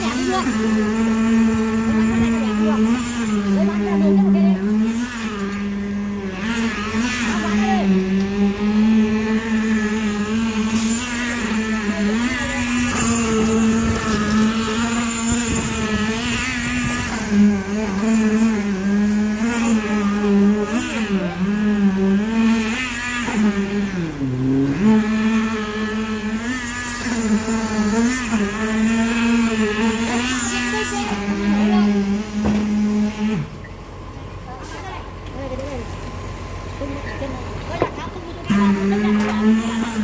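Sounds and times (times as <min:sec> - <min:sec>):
concrete vibrator high hum: 0:00.0 - 0:40.0.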